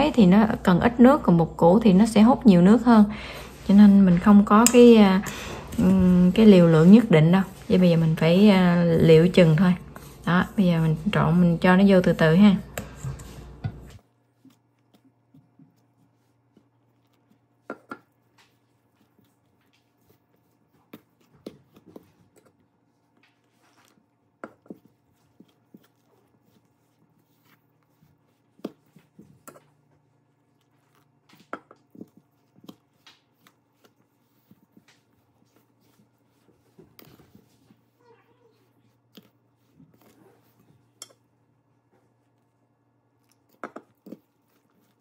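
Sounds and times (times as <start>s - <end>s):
spatula scraping mixing bowl: 0.0s - 45.0s.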